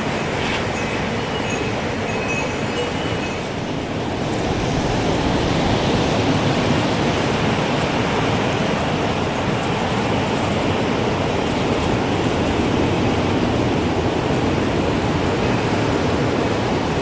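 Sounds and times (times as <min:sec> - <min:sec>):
strong wind blowing: 0:00.0 - 0:17.0.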